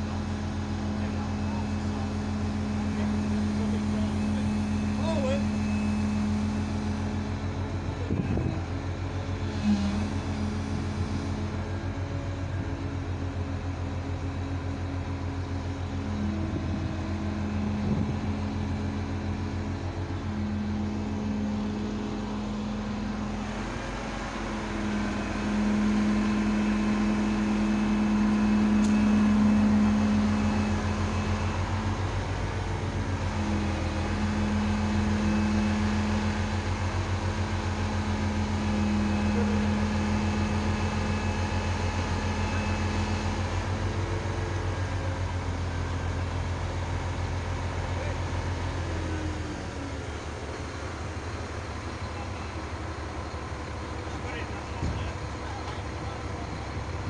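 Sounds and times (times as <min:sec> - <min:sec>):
crane engine running: 0:00.0 - 0:57.0.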